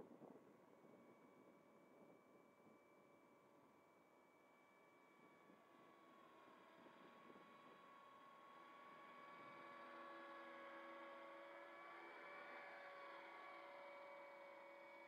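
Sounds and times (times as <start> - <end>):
model helicopter motor whine: 0.0 - 15.0.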